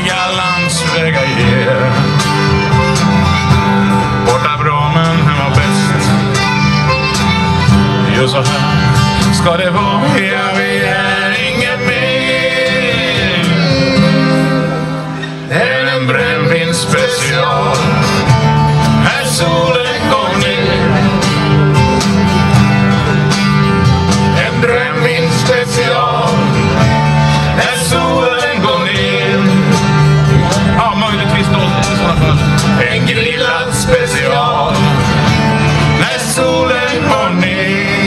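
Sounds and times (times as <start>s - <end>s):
accordion: 0.0s - 38.0s
strummed acoustic guitars: 0.0s - 38.0s.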